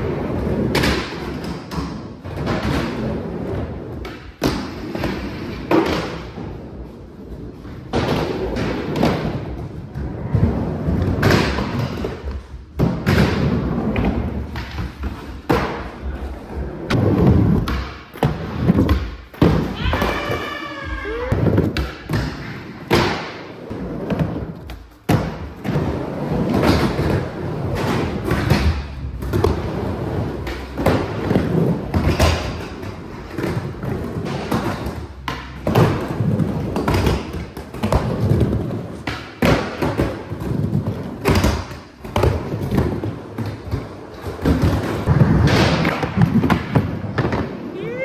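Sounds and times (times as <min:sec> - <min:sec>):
skateboard clacks and thuds: 0:00.0 - 0:06.7, 0:07.8 - 0:20.5, 0:21.3 - 0:47.7
skateboards rolling on ramps: 0:00.0 - 0:48.0.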